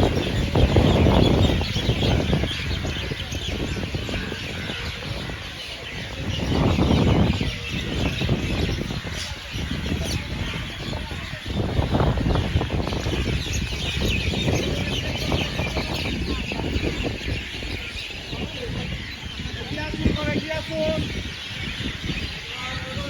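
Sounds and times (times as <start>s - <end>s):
flock of birds chirping: 0.0s - 23.0s.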